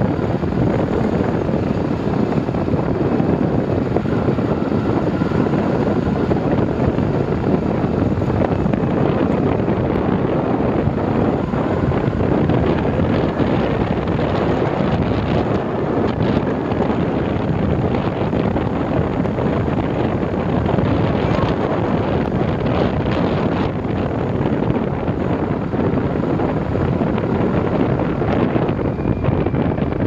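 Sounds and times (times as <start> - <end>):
vehicle engine and tyres: 0.0 - 30.0
wind on microphone: 0.0 - 30.0.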